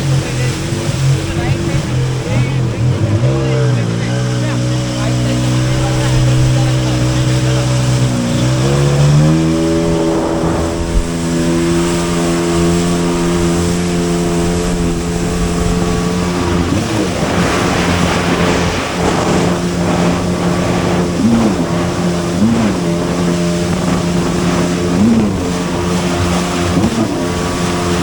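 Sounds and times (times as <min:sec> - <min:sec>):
jet ski engine running: 0:00.0 - 0:28.0.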